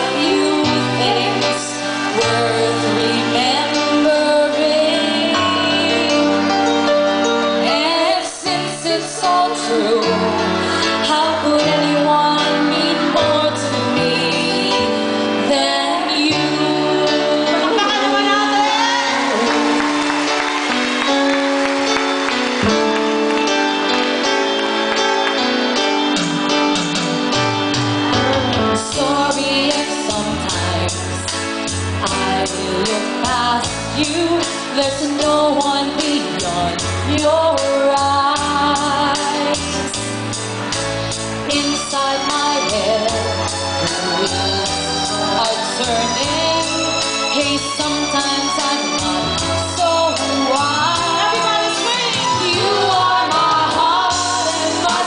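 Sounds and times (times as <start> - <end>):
woman singing: 0.0 - 6.6, 7.6 - 20.4, 28.2 - 40.0, 41.4 - 55.0
live band with keyboards: 0.0 - 55.0.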